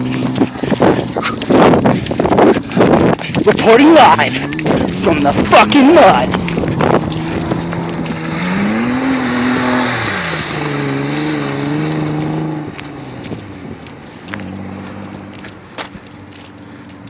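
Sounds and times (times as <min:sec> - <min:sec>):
car engine revving: 0:00.0 - 0:17.0
engine running steadily: 0:00.0 - 0:17.0.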